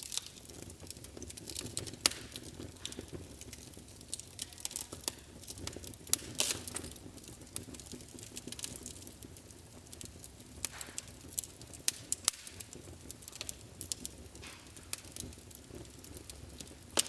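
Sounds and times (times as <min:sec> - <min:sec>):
fire popping and snapping: 0:00.0 - 0:17.0
low rumble of flames: 0:00.0 - 0:17.0.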